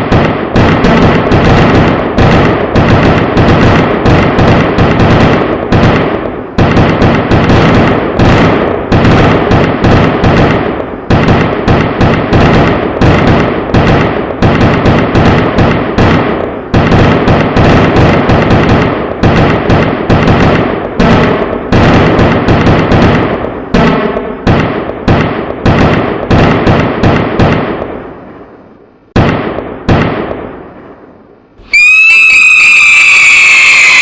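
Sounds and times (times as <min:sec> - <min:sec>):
firecracker bangs: 0:00.0 - 0:28.2, 0:29.1 - 0:31.0.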